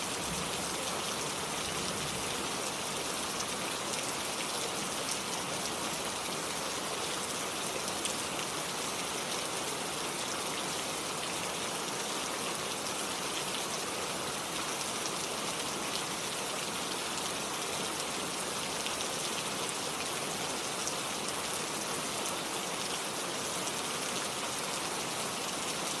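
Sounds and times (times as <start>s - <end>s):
flowing stream: 0.0s - 26.0s
rain pattering: 0.0s - 26.0s.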